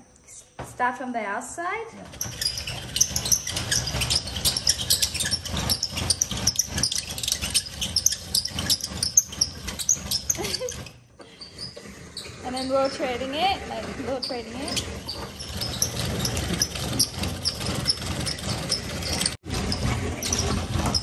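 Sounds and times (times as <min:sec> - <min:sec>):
coconut scraper rasping: 0:02.0 - 0:21.0
short high squeaks: 0:02.0 - 0:21.0.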